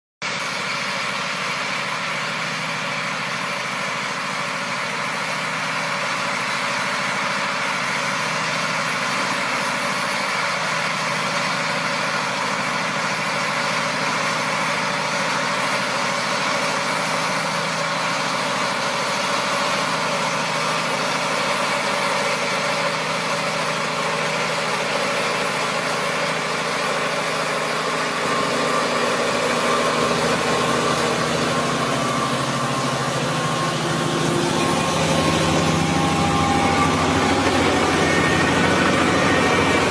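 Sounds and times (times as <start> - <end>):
farm machine engine running: 0.2 - 39.9.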